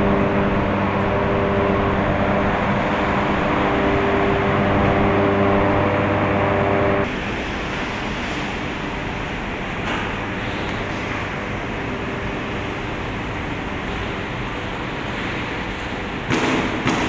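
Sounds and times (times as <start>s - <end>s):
electric fans humming: 0.0s - 17.0s
machinery rushing din: 0.0s - 17.0s.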